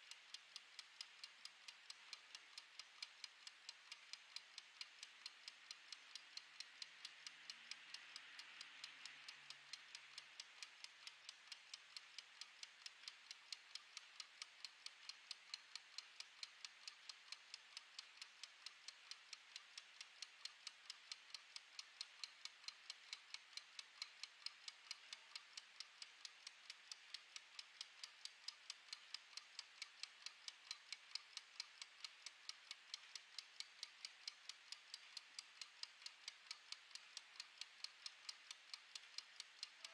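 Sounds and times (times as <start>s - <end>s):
kitchen timer ticking: 0.0s - 39.9s.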